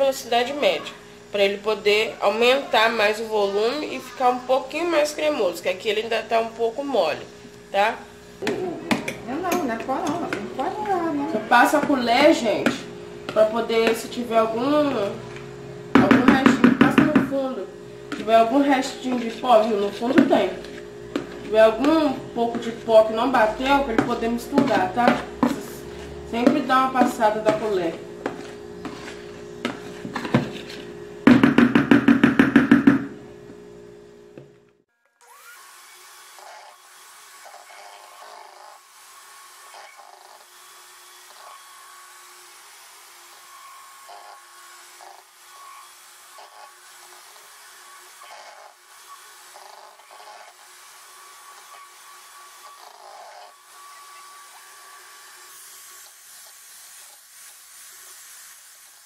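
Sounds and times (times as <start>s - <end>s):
electric hand mixer running: 0.6s - 34.5s, 35.2s - 59.0s.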